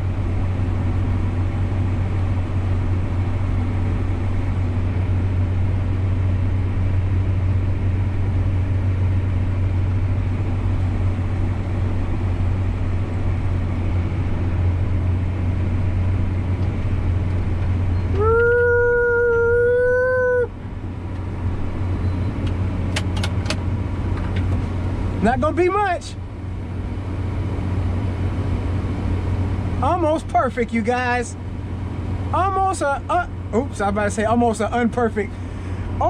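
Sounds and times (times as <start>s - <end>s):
tractor engine droning: 0.0s - 36.0s.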